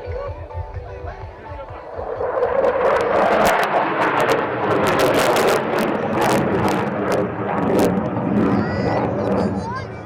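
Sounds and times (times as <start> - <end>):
jet fighter engine roar: 1.4 - 10.0.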